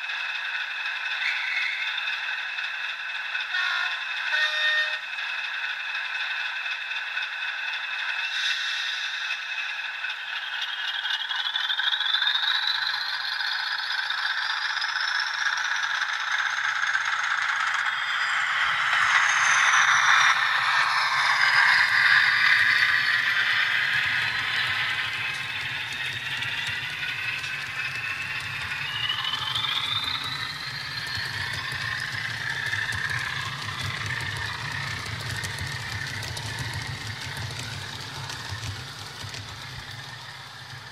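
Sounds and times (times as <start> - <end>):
model train engine sound: 0.0 - 40.9
model train wheels rattling on track: 0.0 - 40.9.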